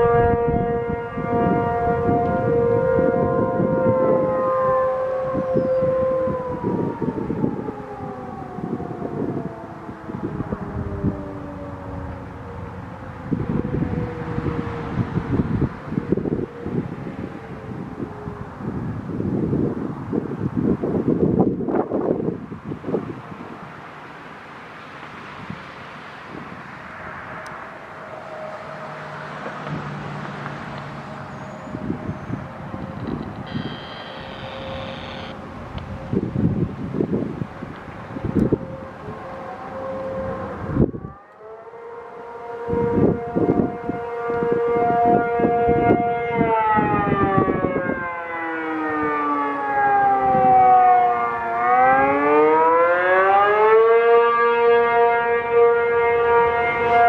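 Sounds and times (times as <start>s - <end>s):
tornado siren two-tone chord: 0.0s - 20.3s, 25.4s - 57.0s
wind on microphone: 0.0s - 41.6s, 42.3s - 52.6s
road traffic: 0.0s - 57.0s.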